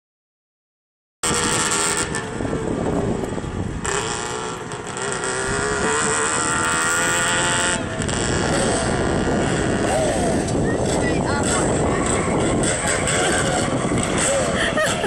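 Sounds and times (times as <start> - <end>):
car engine revving: 1.2 - 15.0
car engines running: 1.2 - 15.0.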